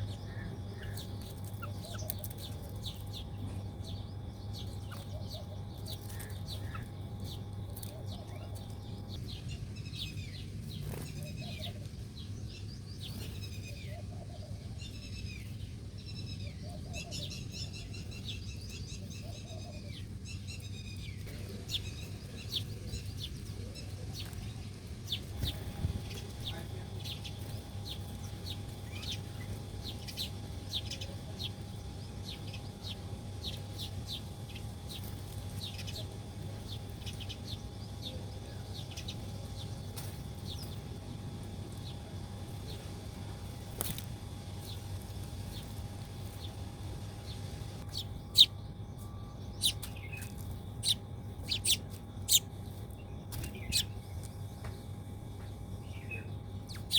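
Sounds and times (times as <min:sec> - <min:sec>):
low steady hum: 0:00.0 - 0:56.9
small birds chirping: 0:00.0 - 0:56.9.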